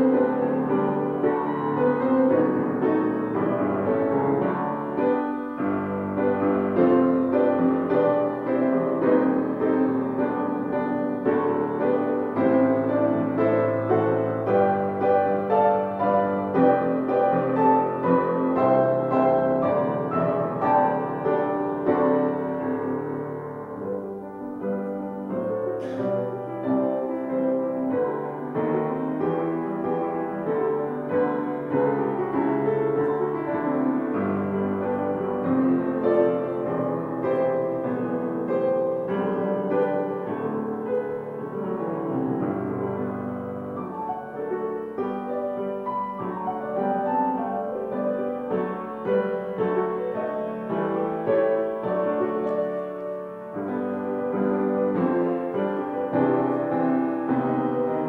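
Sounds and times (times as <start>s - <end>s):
piano playing chords and melody: 0.0s - 58.0s.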